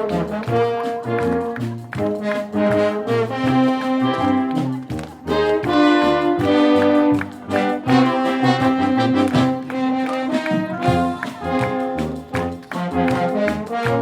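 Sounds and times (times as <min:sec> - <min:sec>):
wind orchestra with brass chords: 0:00.0 - 0:14.0.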